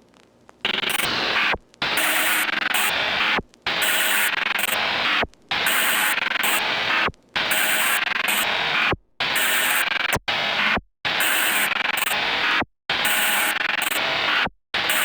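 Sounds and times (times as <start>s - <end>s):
harsh noise electronic music: 0.7s - 15.0s.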